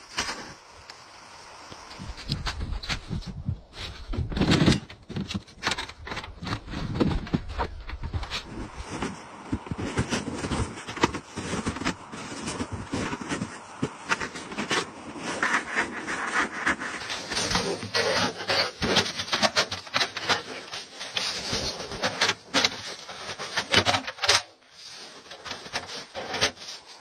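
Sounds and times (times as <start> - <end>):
snow crunching and scraping: 0.0 - 27.0.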